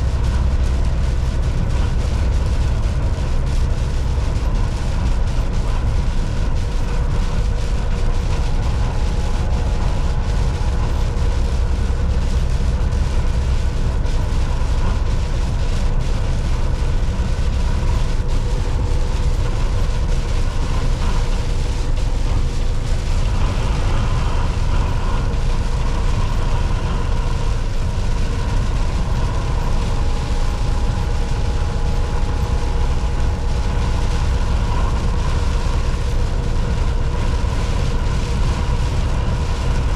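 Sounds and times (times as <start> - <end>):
faint steady hum: 0.0 - 39.9
truck engine and road rumble: 0.0 - 39.9.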